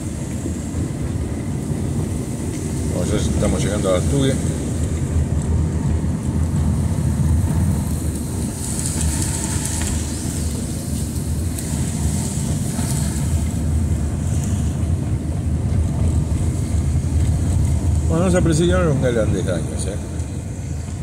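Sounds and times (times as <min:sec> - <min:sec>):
car engine and road rumble: 0:00.0 - 0:21.0
tyre hiss on wet asphalt: 0:00.0 - 0:21.0.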